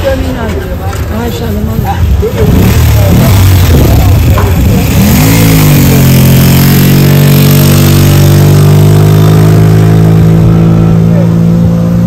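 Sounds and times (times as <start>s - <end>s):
motor vehicle engine running: 0.0s - 12.0s.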